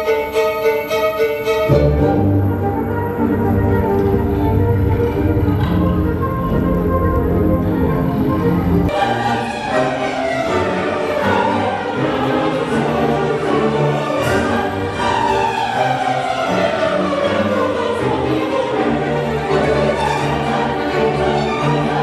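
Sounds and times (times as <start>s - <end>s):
choir singing: 0.0s - 22.0s
orchestral music: 0.0s - 22.0s.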